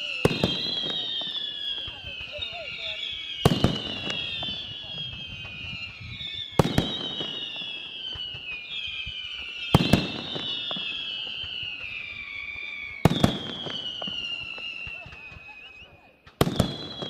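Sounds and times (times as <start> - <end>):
falling whistling tones: 0.0 - 17.0
firework shells bursting: 0.2 - 17.0.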